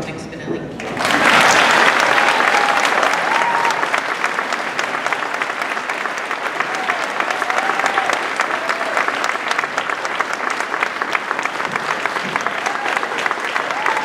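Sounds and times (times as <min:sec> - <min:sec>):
audience applauding: 0:00.8 - 0:14.0.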